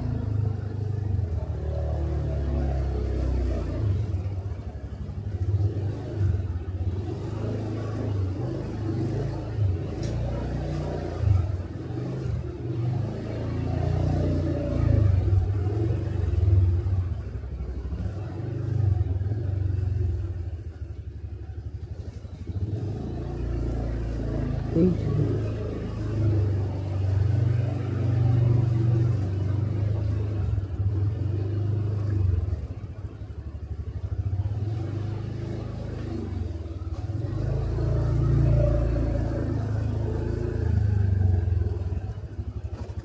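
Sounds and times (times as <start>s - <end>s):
motorcycle engine rumble: 0.0s - 43.0s.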